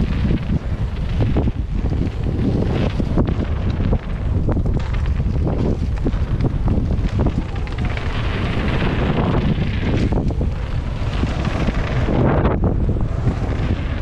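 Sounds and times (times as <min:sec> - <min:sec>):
bike rattling over bumps: 0:00.0 - 0:14.0
wind buffeting microphone: 0:00.0 - 0:14.0.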